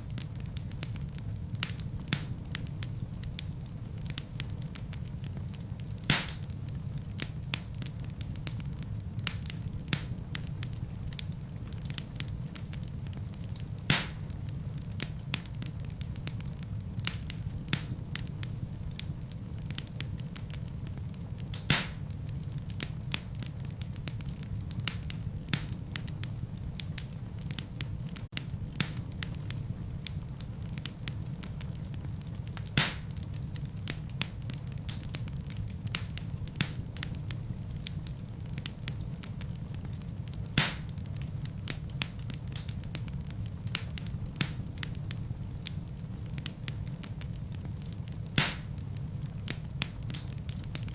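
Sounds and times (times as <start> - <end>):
fire crackles and pops: 0.0 - 50.9
fire rumbling in fireplace: 0.0 - 50.9.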